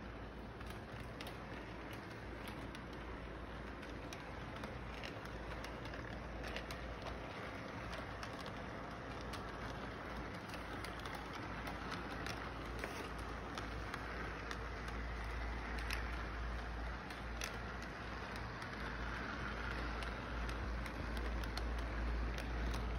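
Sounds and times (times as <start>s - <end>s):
low background hum: 0.0s - 22.9s
model train motor rumble: 0.0s - 22.9s
wheels clicking over rail joints: 0.0s - 22.9s.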